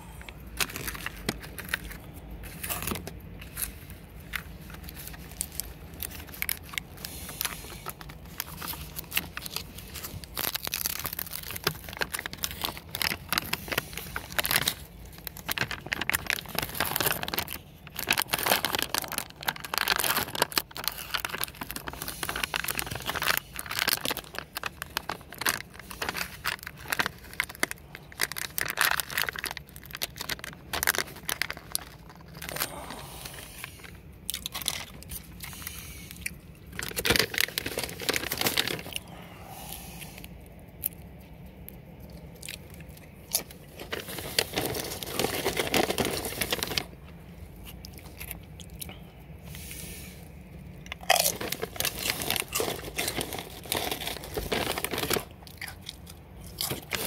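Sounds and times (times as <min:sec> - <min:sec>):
plastic crinkling: 0:00.0 - 0:49.0, 0:50.6 - 0:57.0.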